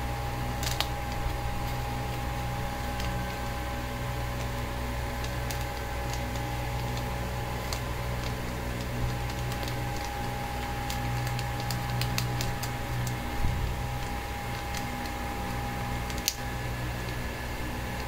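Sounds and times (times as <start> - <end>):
low hum: 0.0 - 18.0
thin steady whine: 0.0 - 18.0.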